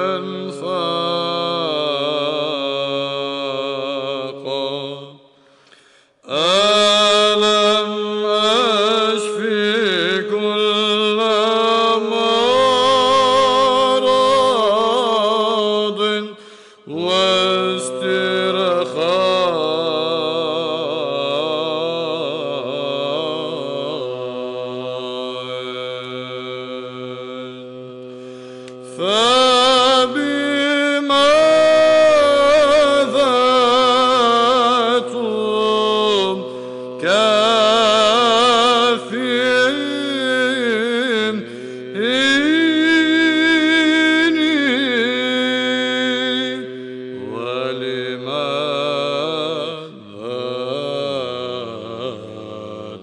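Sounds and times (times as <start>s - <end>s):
man chanting a hymn: 0.0s - 5.3s, 6.2s - 53.0s
steady held vocal drone: 0.0s - 5.4s, 6.1s - 53.0s.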